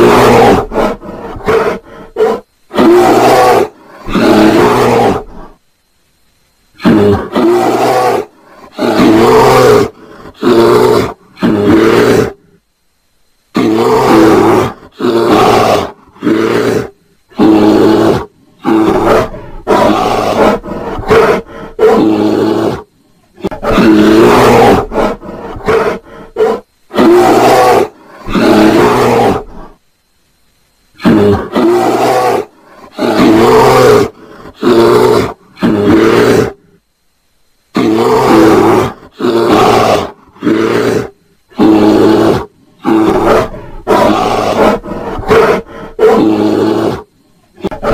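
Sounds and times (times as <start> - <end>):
bear roaring: 0.0 - 5.6, 6.8 - 12.6, 13.5 - 29.8, 31.0 - 36.8, 37.7 - 47.9.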